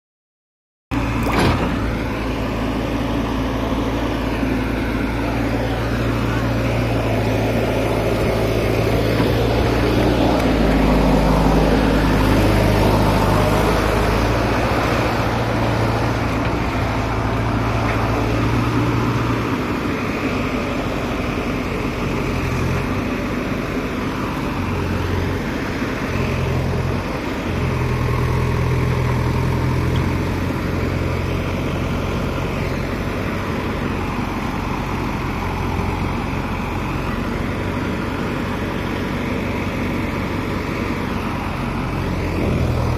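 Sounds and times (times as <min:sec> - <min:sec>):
diesel engine of backhoe loader: 0:00.9 - 0:42.9.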